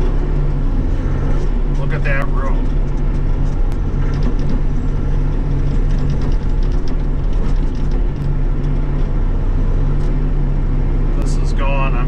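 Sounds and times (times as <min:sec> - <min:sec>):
excavator diesel engine drone: 0:00.0 - 0:12.0.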